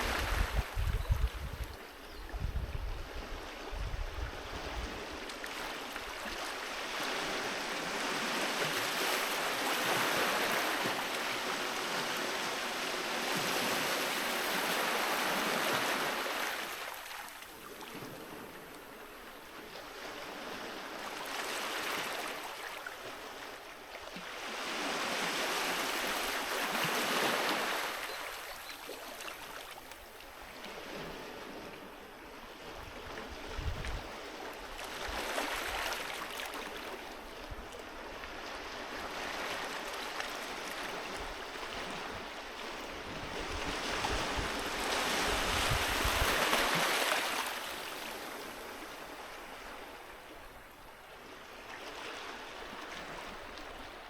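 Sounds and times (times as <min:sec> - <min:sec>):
sea waves breaking on beach: 0:00.0 - 0:02.0, 0:03.0 - 0:54.0.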